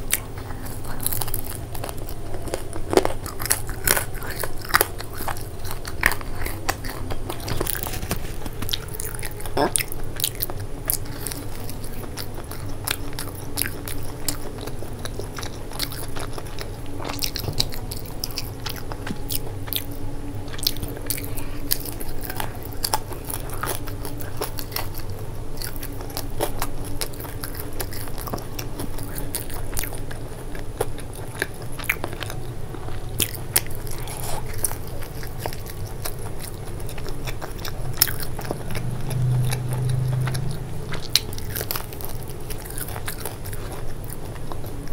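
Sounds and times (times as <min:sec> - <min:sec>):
crunching fried pastry: 0:00.0 - 0:44.9
moist chewing: 0:00.0 - 0:44.9.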